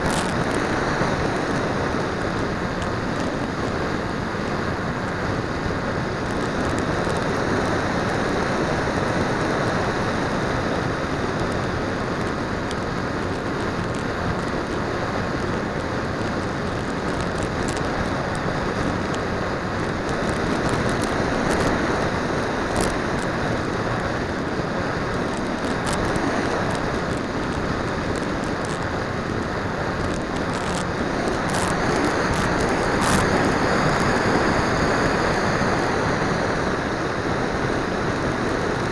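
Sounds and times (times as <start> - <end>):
model plane motor and propeller: 0.0 - 38.9.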